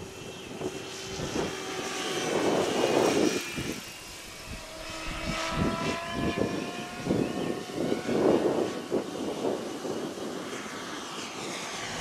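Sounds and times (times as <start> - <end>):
rc helicopter motor whine: 0.0 - 12.0
rotor blades rushing: 0.0 - 12.0
wind rumbling on microphone: 0.0 - 12.0.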